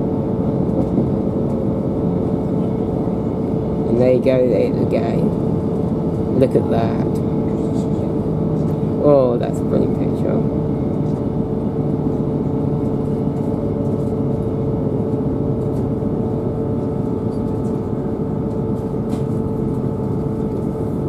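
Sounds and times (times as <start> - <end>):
engine and transmission drone: 0.0 - 21.0
mid-pitched whine: 0.0 - 21.0
train running gear rumble: 0.0 - 21.0.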